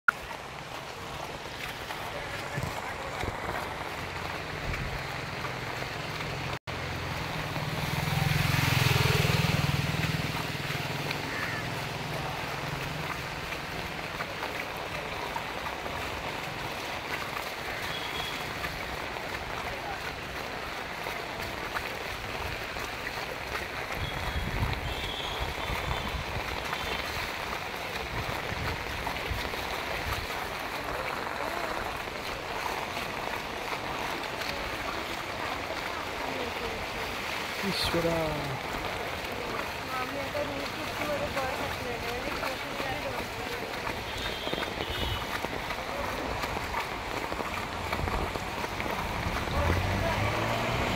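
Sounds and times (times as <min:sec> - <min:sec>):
floodwater rushing over street: 0:00.1 - 0:50.9
heavy rain: 0:00.1 - 0:50.9
water spraying from wheels: 0:00.1 - 0:50.9.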